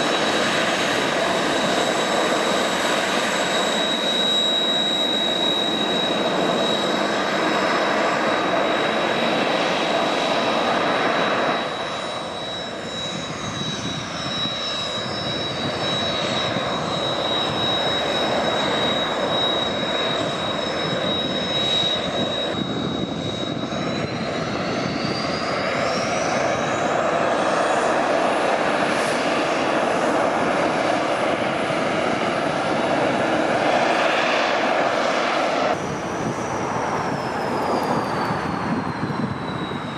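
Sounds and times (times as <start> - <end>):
falling and rising high whine: 0.0 - 39.9
jet engines roaring: 0.0 - 39.9.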